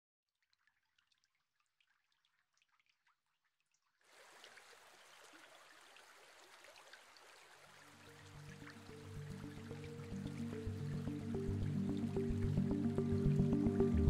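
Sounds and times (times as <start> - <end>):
trickle of running water: 0.3 - 14.0
water dripping: 0.3 - 14.0.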